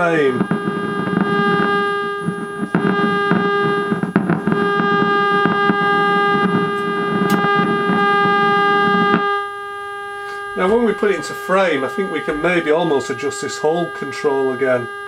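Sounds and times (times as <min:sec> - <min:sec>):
rough low buzz: 0:00.0 - 0:15.0
steady electronic tone: 0:00.0 - 0:15.0.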